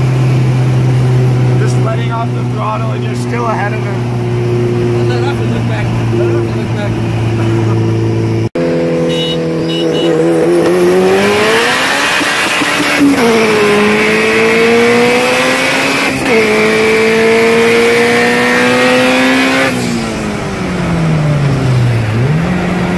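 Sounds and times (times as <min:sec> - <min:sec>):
turbocharged car engine revving: 0:00.0 - 0:22.9.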